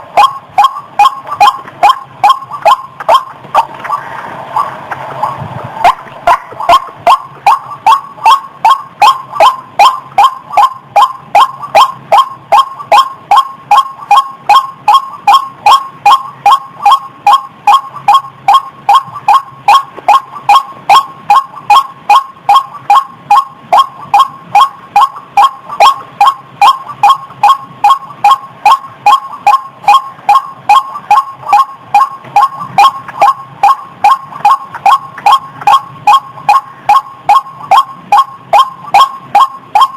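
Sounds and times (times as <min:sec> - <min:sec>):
waterhen calling: 0:00.1 - 0:39.9.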